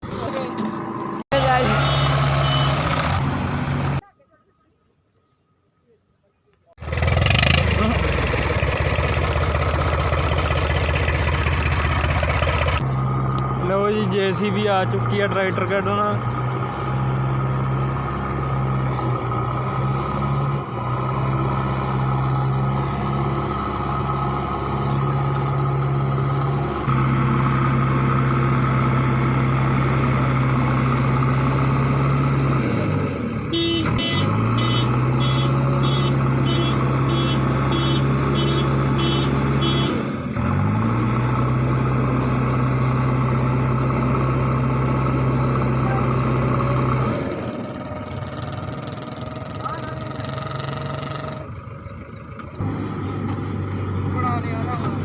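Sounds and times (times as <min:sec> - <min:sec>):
tractor diesel engine running hard: 0:06.8 - 0:55.0.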